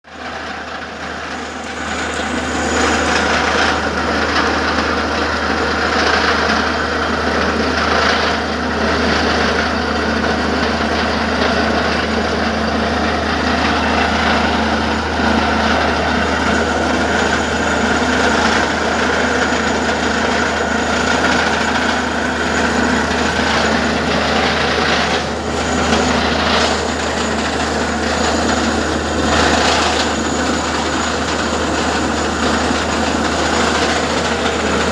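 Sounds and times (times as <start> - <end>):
drilling rig machine din: 0.1 - 34.9.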